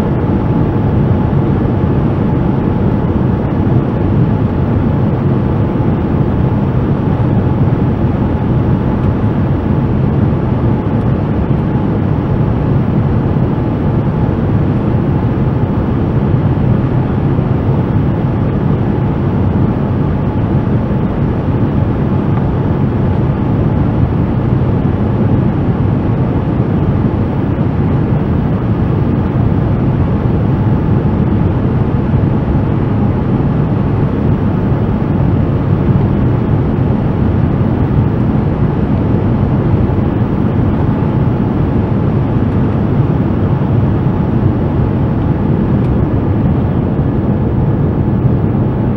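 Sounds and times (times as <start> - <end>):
aircraft cabin engine and airflow noise: 0.0 - 48.9
faint steady hum: 0.0 - 48.9.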